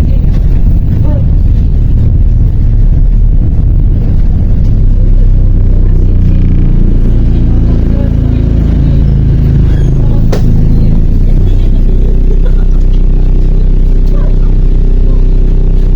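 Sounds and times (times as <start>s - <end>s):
bus diesel engine drone: 0.0s - 15.9s
road rumble: 0.0s - 15.9s.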